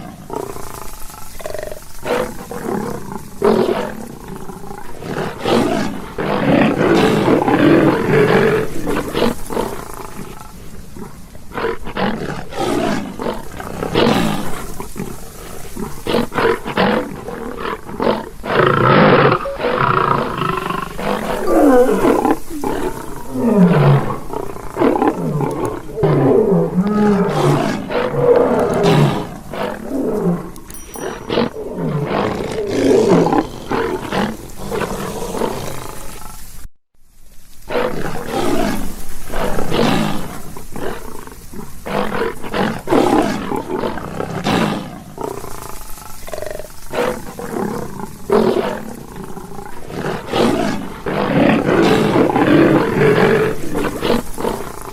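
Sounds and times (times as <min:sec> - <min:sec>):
lion roaring: 0:00.0 - 0:36.3, 0:41.9 - 0:54.9.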